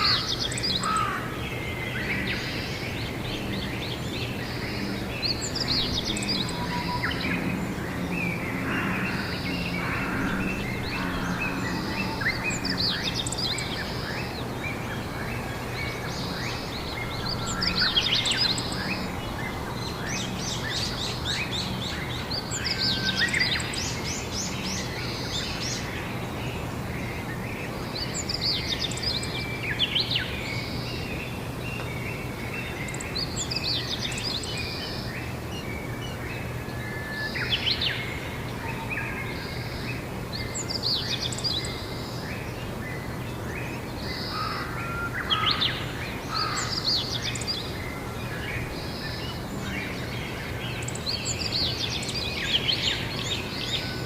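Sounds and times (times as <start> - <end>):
outdoor background noise: 0.0 - 54.0
songbirds singing: 0.0 - 54.0.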